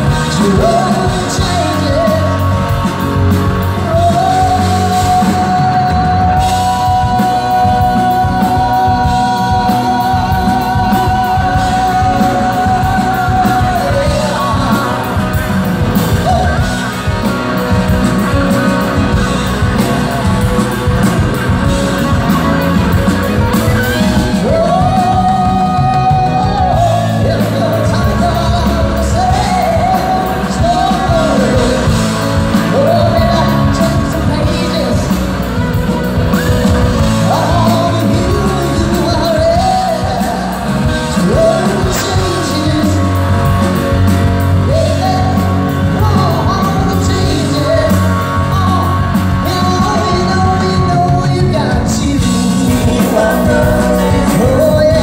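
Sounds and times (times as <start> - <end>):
live rock band playing: 0.0 - 55.0
person singing lead vocal: 0.0 - 55.0.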